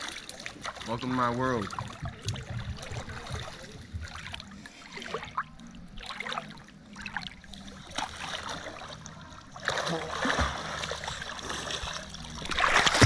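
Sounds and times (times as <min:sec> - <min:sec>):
water sloshing and splashing: 0:00.0 - 0:13.0
water trickling: 0:00.0 - 0:13.0.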